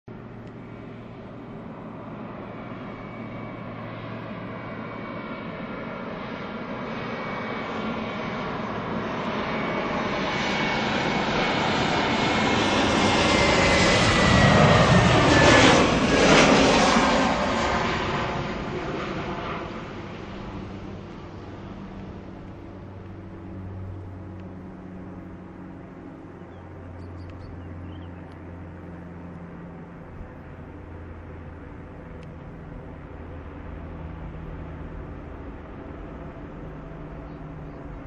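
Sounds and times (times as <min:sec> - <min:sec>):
high jet engine whine: 0:00.1 - 0:38.0
jet landing approach: 0:00.1 - 0:38.0.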